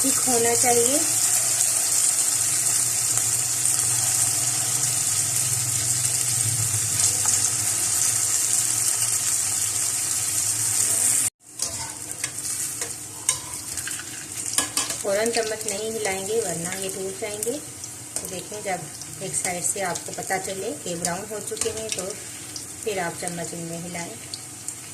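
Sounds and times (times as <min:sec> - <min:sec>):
hot oil sizzling: 0:00.0 - 0:24.9.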